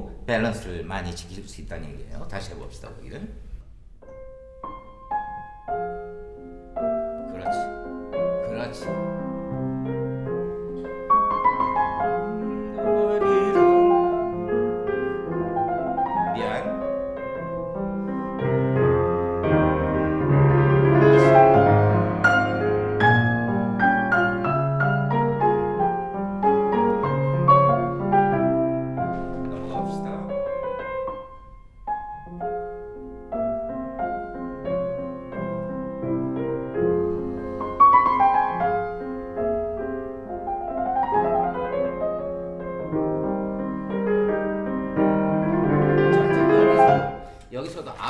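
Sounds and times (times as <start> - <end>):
classical piano music: 4.0 - 48.0.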